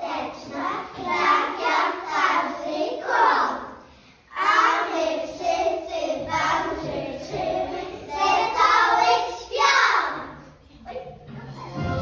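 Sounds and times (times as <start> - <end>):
children singing into microphone: 0.0 - 10.5.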